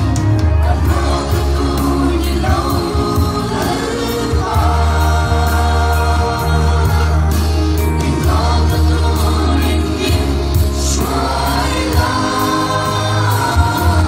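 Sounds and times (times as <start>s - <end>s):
backing voices singing: 0.0s - 14.0s
heavy bass line: 0.0s - 14.0s
woman singing lead: 0.0s - 14.0s.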